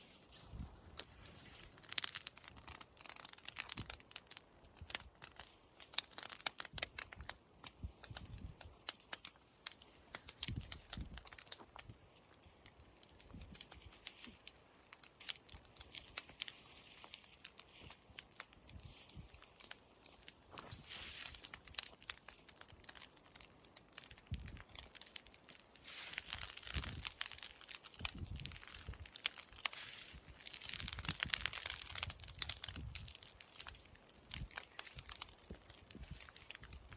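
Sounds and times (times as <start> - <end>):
burning straw crackling: 0.0 - 36.9.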